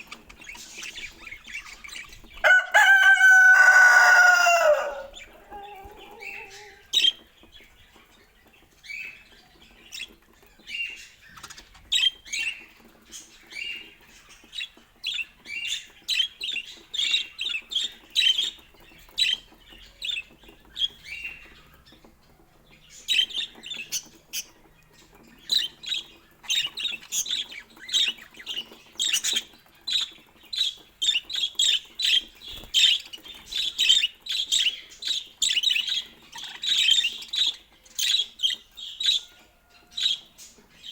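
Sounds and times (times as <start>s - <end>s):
budgerigar chirping and chattering: 5.0s - 39.3s.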